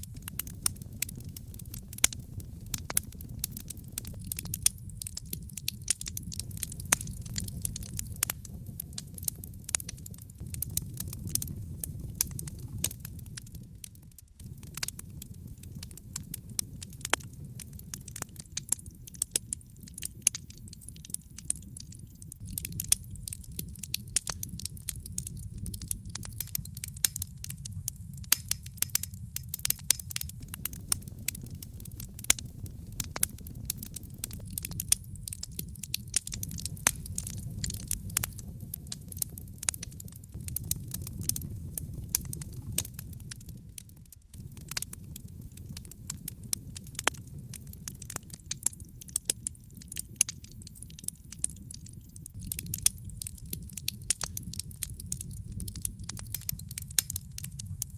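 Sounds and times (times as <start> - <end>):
fire crackling and popping: 0.0 - 57.9
fire rumbling: 0.0 - 57.9.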